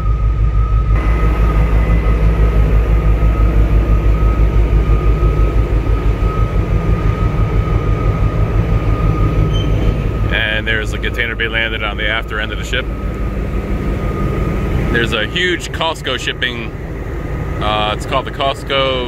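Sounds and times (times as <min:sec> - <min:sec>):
deep machinery hum: 0:00.0 - 0:19.0
high whine: 0:00.0 - 0:19.0.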